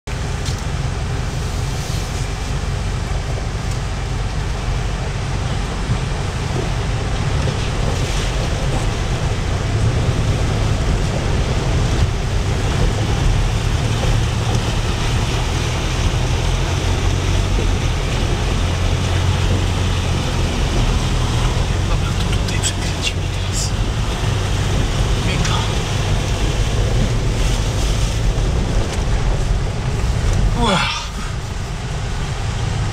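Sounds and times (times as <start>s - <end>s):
engine low drone: 0.0s - 32.9s
water splashing against vehicle: 0.1s - 32.9s.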